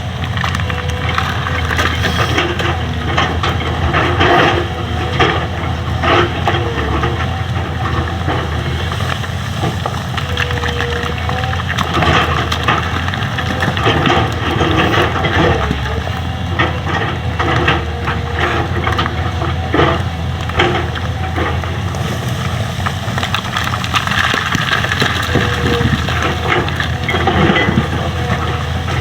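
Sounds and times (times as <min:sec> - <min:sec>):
excavator diesel engine running: 0:00.0 - 0:29.0
hydraulic gear whines: 0:00.0 - 0:29.0.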